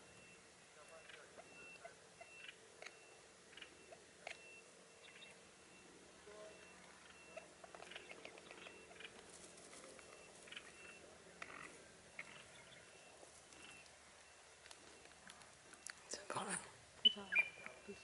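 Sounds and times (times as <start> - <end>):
birds pecking and stepping in grass: 0.0 - 18.0.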